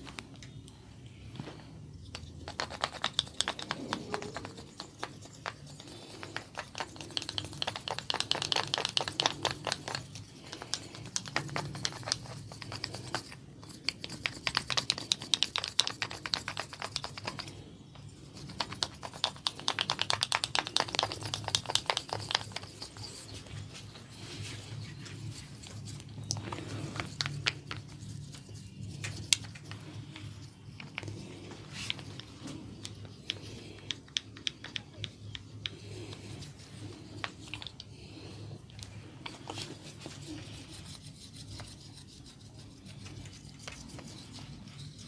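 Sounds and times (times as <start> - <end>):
hands crackling in oiled hair: 2.3 - 17.6, 18.2 - 40.9.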